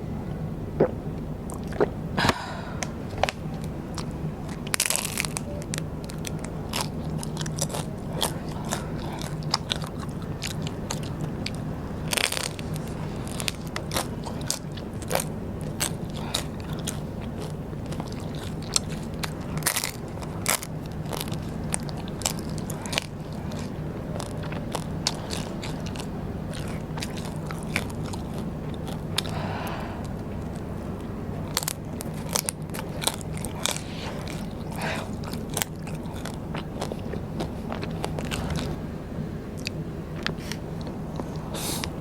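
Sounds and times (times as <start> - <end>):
faint low hum: 0.0 - 42.0
crunchy snack chewing: 1.5 - 38.8, 39.5 - 42.0.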